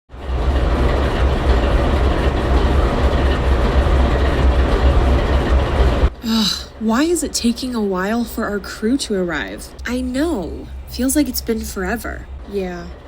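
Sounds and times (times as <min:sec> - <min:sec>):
rail noise: 0:00.1 - 0:13.0
train rumbling: 0:00.1 - 0:13.0.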